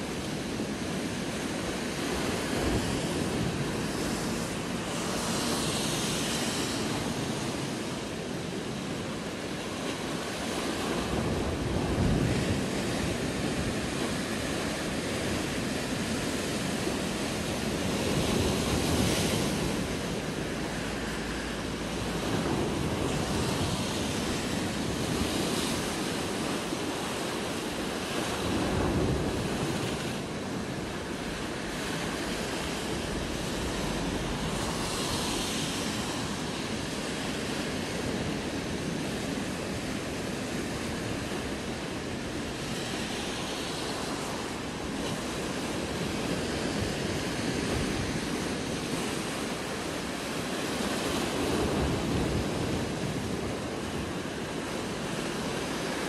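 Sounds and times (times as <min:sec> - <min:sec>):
sea surf breaking on rocks: 0:00.0 - 0:56.0.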